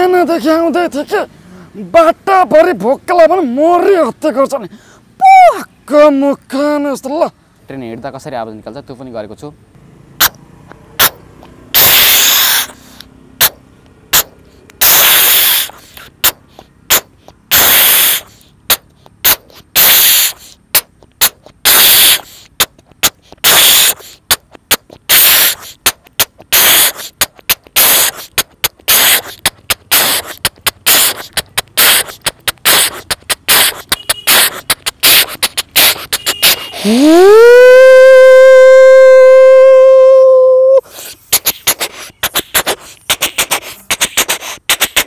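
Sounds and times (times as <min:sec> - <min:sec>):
man imitating a steam train: 0:00.0 - 0:06.8, 0:11.0 - 0:45.0.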